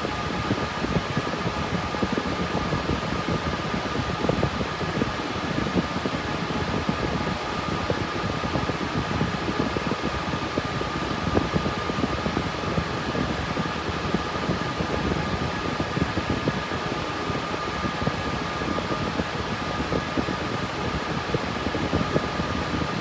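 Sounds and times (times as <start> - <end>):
cooling fans rushing air: 0.0 - 23.0.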